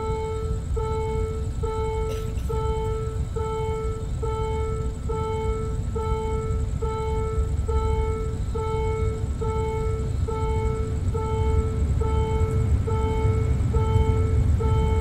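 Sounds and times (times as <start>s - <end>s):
level crossing warning alarm: 0.0s - 15.0s.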